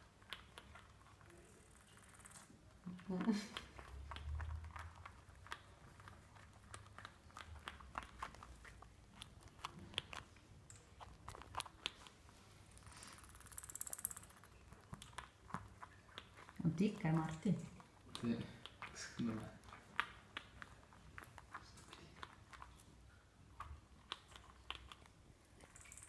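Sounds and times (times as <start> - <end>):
squirrel gnawing plastic ball: 0.0 - 26.0.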